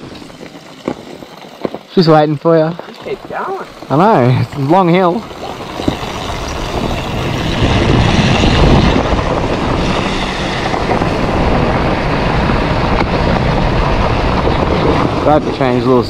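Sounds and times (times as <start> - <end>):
dirt bike engine running: 0.0 - 16.0
wind noise on microphone: 3.0 - 16.0.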